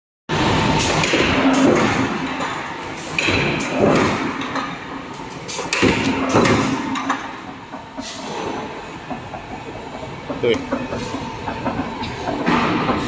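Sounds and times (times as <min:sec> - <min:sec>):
steady machine noise: 0:00.3 - 0:13.0.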